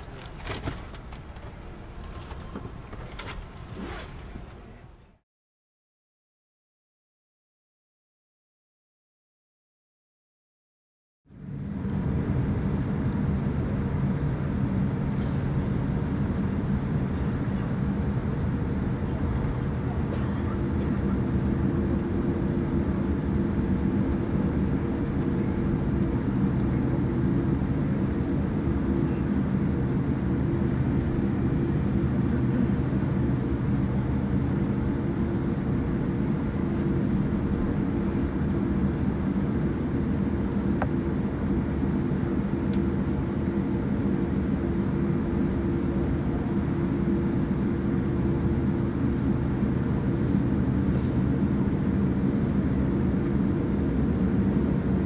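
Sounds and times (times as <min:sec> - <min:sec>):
airliner cabin hum and rumble: 0:00.0 - 0:05.2, 0:11.3 - 0:55.0.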